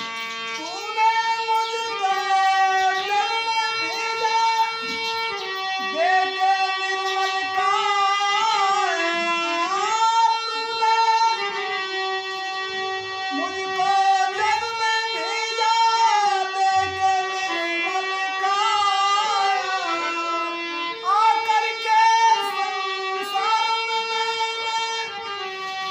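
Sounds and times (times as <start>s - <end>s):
man singing: 0.0s - 11.6s, 13.3s - 25.4s
long held instrumental notes: 0.0s - 25.9s.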